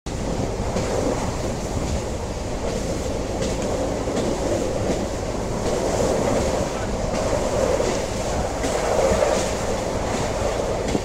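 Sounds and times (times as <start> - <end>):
train rumbling along track: 0.1 - 11.0.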